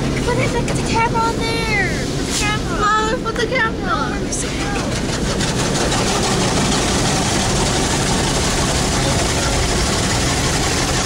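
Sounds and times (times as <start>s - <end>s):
car wash machinery rushing: 0.0s - 11.0s.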